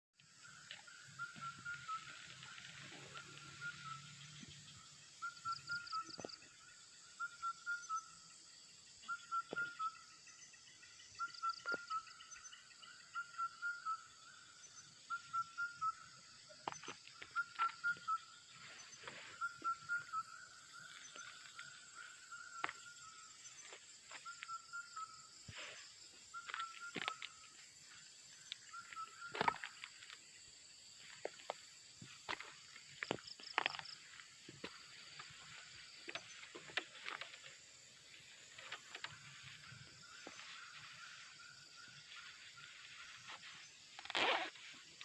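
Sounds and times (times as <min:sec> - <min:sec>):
bird calls: 0:00.2 - 0:45.0
insects droning: 0:00.2 - 0:45.0.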